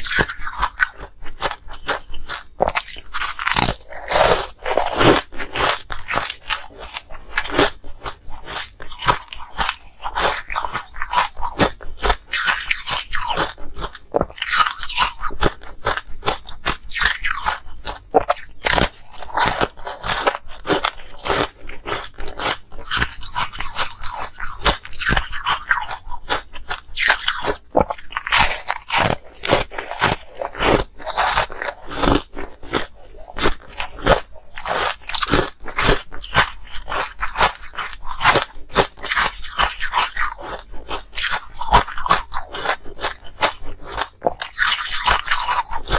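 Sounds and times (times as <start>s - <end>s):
teeth crunching ice: 0.0s - 45.9s.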